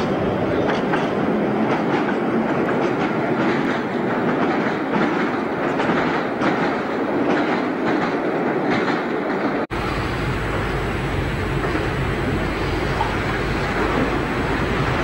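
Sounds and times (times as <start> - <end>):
train wheels clacking on rail joints: 0.0 - 9.7, 11.5 - 15.0.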